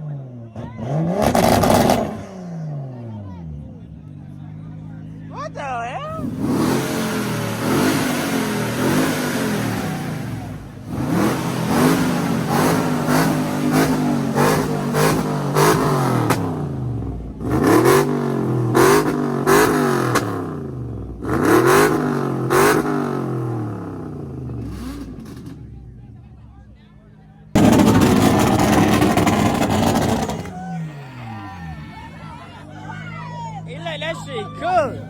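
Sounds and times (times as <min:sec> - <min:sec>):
car engine revving: 0:00.0 - 0:26.7, 0:27.4 - 0:35.0.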